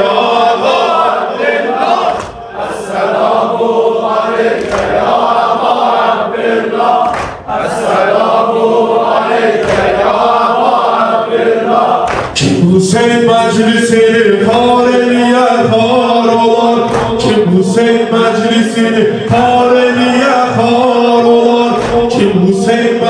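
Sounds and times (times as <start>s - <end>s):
group of men chanting: 0.0s - 23.0s.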